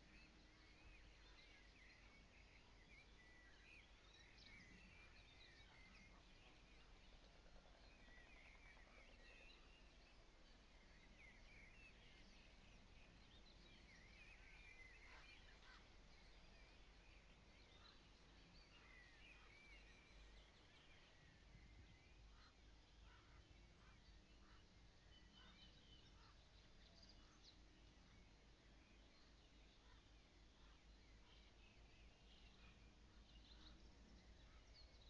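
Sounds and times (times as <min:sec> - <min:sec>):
songbirds chirping faintly: 0:00.0 - 0:35.0
steady low hum and hiss: 0:00.0 - 0:35.0.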